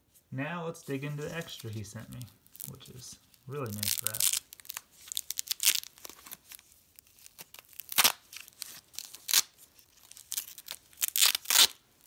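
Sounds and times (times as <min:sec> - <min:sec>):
foam packing wrap tearing: 0:01.2 - 0:11.9.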